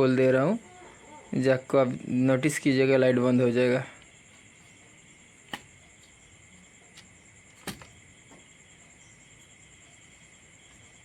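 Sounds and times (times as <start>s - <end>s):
faint high-pitched hiss: 0.0s - 11.0s.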